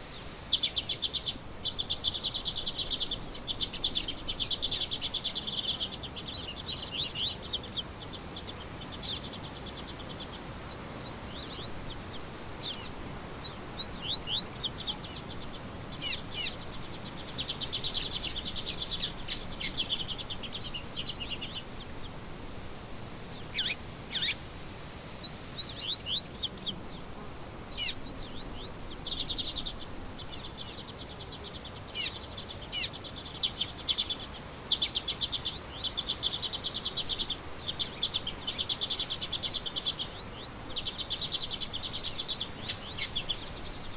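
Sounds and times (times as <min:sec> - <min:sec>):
loud sharp bird calls: 0:00.0 - 0:22.1, 0:23.3 - 0:24.4, 0:27.7 - 0:43.9
songbirds singing: 0:00.0 - 0:24.5, 0:25.2 - 0:43.9
faint steady hiss: 0:00.0 - 0:43.9.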